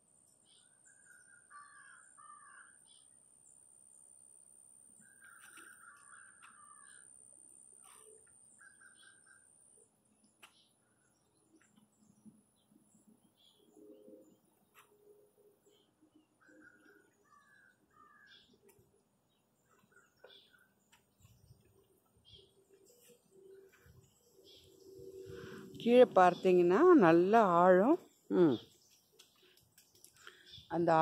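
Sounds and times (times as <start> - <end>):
faint birdsong: 0.0 - 31.0.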